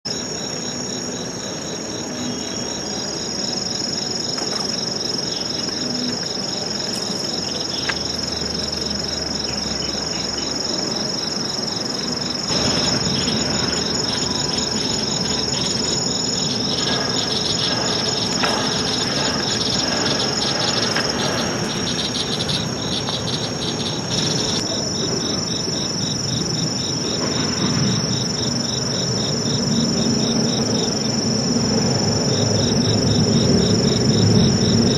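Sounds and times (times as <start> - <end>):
high-pitched insect trill: 0.0 - 34.9
rapid pulsed insect chirping: 0.0 - 34.9.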